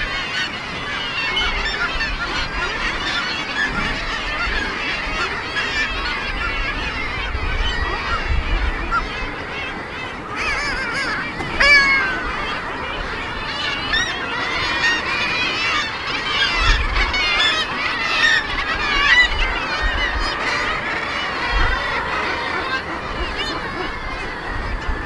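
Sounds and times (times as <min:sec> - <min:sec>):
seabirds calling: 0:00.0 - 0:25.0.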